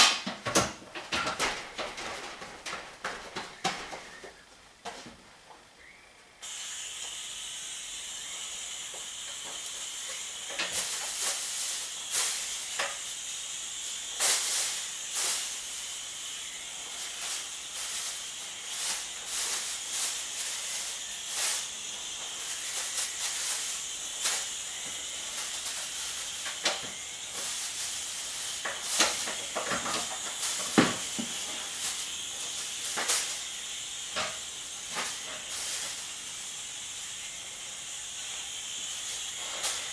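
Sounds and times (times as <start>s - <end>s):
sprayer hissing: 5.8s - 39.9s.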